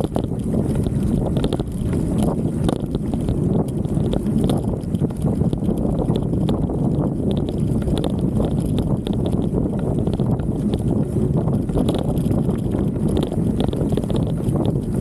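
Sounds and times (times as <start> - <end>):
bike rumbling over rough grass: 0.0 - 15.0
wind on microphone: 0.0 - 15.0
camera rattling in mount: 0.1 - 15.0.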